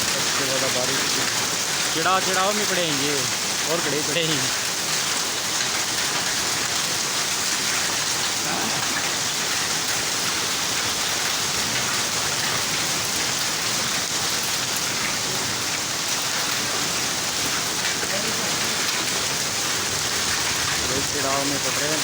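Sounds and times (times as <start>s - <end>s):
hailstones ticking: 0.0s - 22.0s
heavy rain: 0.0s - 22.0s.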